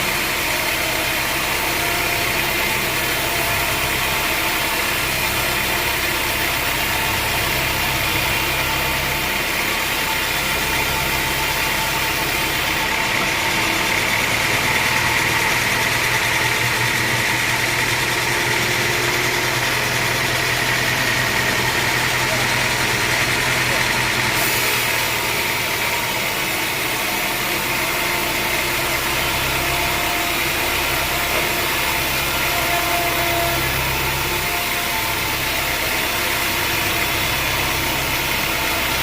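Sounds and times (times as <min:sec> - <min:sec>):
sawmill machinery droning: 0:00.0 - 0:39.0.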